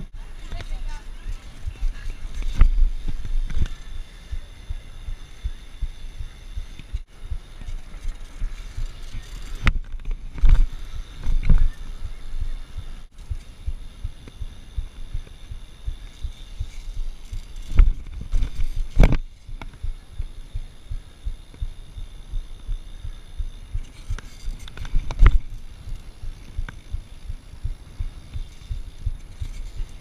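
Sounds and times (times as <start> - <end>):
bike rumbling over concrete: 0.0 - 30.0.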